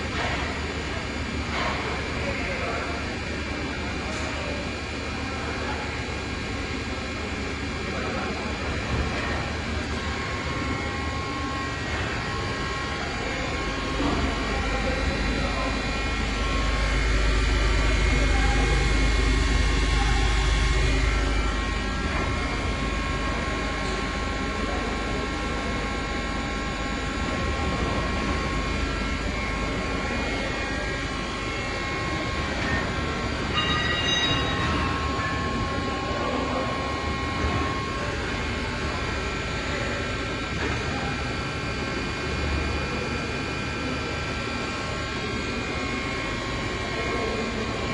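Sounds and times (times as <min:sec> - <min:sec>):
lathe machine hum: 0:00.0 - 0:47.9
steady whining tones: 0:00.0 - 0:47.9.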